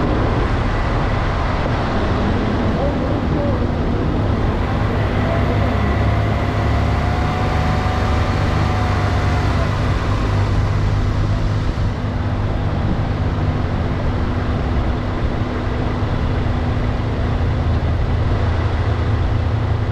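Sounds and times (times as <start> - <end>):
car engine running at low revs: 0.0 - 19.9
road noise: 0.0 - 19.9.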